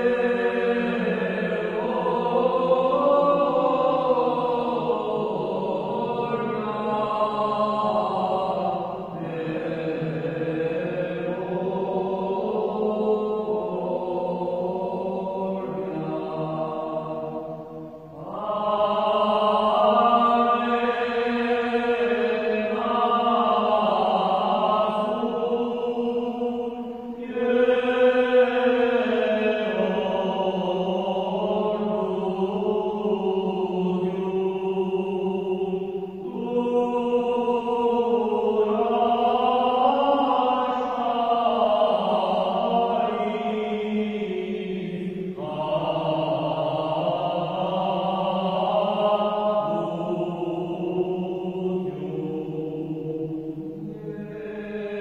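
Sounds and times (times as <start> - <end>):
liturgical chant singing: 0.0 - 55.0.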